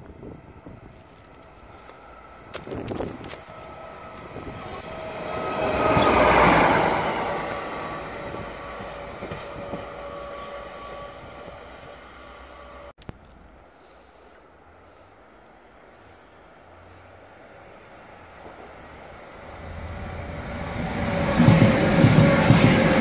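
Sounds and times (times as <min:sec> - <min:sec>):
rail vehicle passing: 0:00.0 - 0:12.9, 0:13.5 - 0:23.0.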